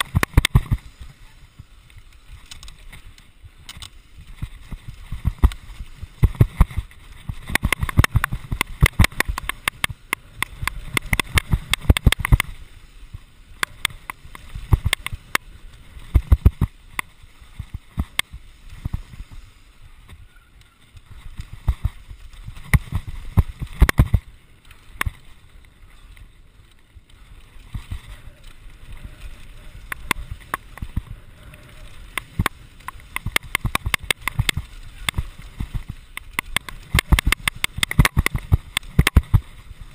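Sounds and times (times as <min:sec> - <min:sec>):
mountain bike rattling over bumps: 0:00.0 - 0:39.9.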